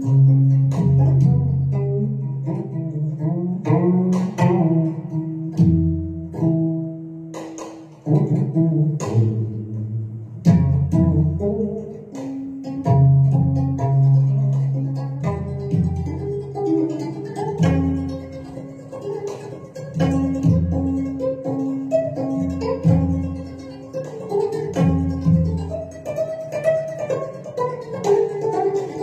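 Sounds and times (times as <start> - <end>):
plucked string instrument melody: 0.0 - 29.0.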